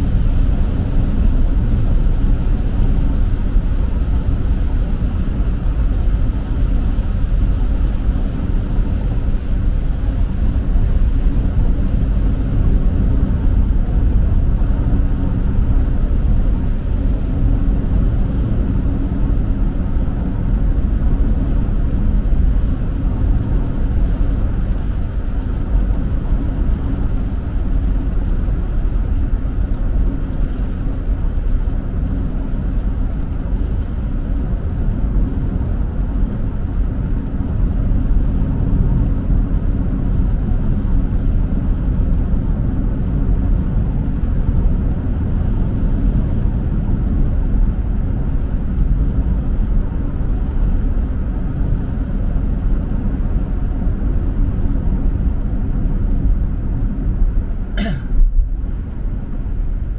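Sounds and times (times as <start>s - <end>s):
tyres on wet road: 0.0s - 59.9s.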